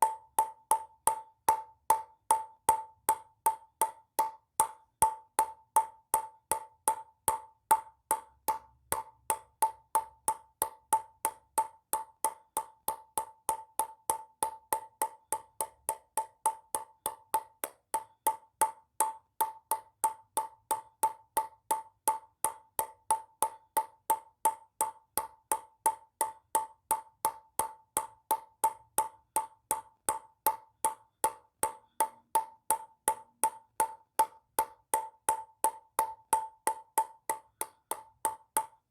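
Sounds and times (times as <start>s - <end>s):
ping-pong ball bouncing: 0.0s - 38.9s.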